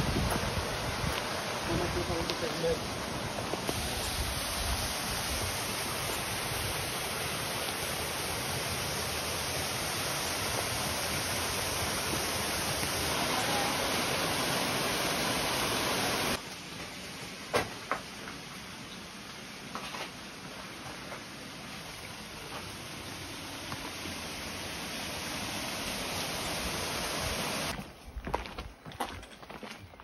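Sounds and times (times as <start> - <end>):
mountain stream and waterfall: 0.0 - 27.8.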